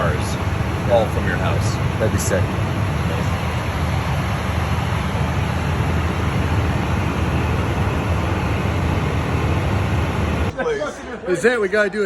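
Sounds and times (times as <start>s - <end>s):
jet cabin engine rumble: 0.0s - 10.5s.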